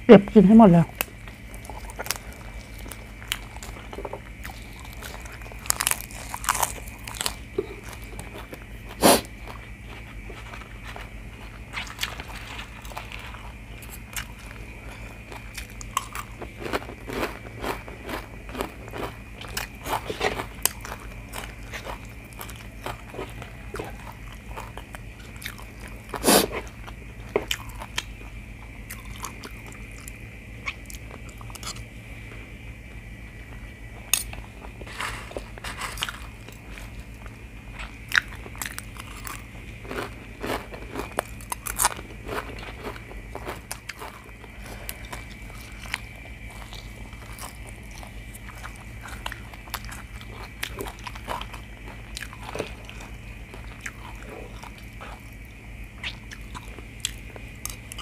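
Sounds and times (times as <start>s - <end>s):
person chewing and crunching food: 0.9s - 58.0s.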